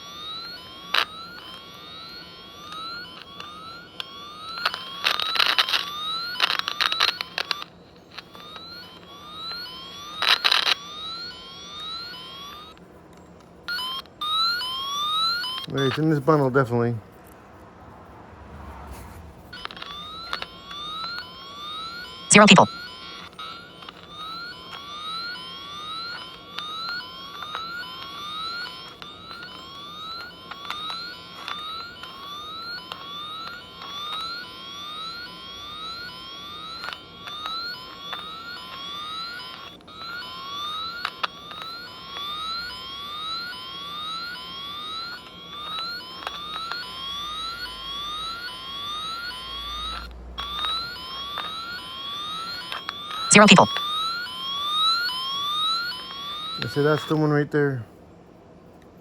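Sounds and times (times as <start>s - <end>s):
rising electronic chirp: 0.0s - 12.8s, 19.4s - 57.4s.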